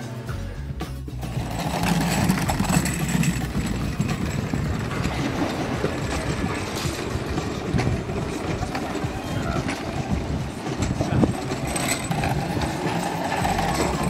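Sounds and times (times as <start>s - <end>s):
carts rattling on concrete: 1.1s - 14.0s.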